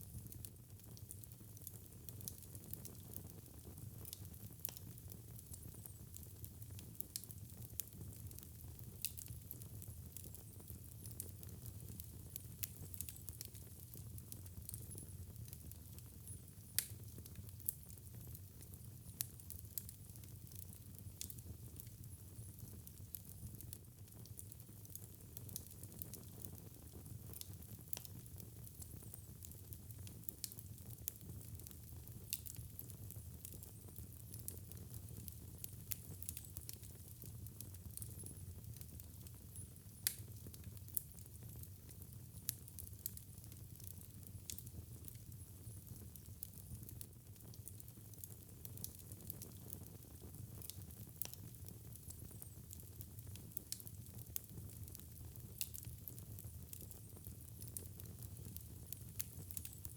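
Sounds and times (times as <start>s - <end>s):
fireplace fire crackling: 0.0s - 59.9s.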